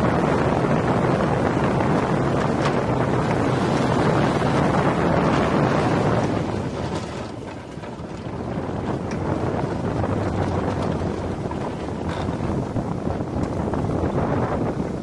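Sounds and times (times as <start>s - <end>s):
low rumble of roller coaster: 0.0s - 15.0s
wind rushing over microphone: 0.0s - 15.0s.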